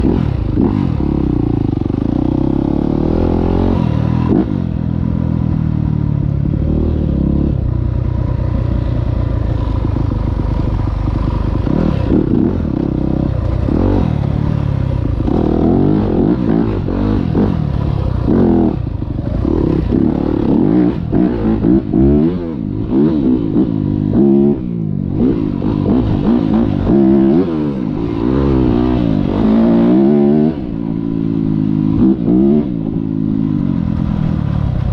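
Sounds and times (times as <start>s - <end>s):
dirt bike engine revving: 0.0s - 5.2s, 8.8s - 34.2s.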